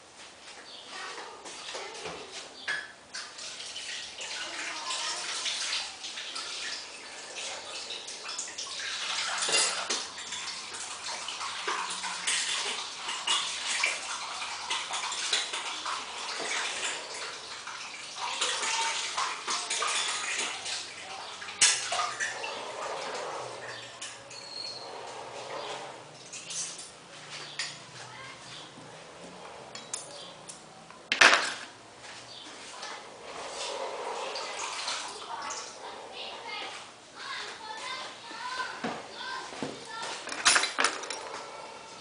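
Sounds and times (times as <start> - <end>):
water running and splashing: 3.1 - 29.7, 32.0 - 42.0.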